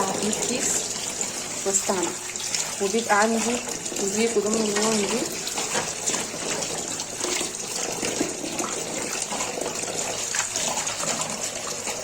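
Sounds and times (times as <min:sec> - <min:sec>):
tap water running over leaves: 0:00.0 - 0:12.0.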